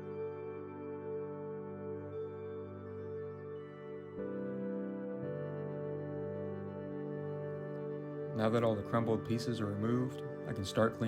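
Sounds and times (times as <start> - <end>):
soft new-age music: 0.0 - 11.0.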